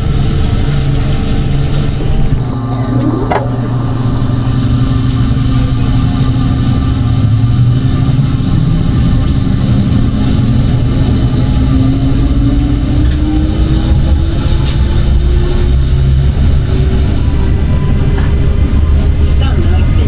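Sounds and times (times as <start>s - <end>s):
electric tram rumbling on rails: 0.0s - 20.0s
tram motor whine rising: 0.0s - 20.0s.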